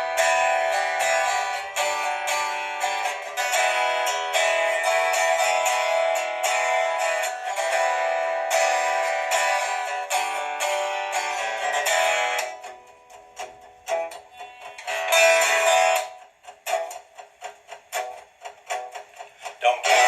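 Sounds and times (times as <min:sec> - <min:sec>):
guitar strumming and picking: 0:00.0 - 0:20.0.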